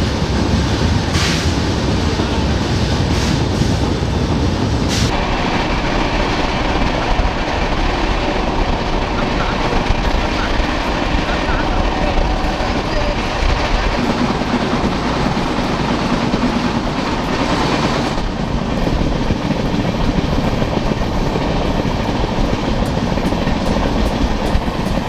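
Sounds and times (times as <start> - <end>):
train wheels on rails: 0.0 - 25.0.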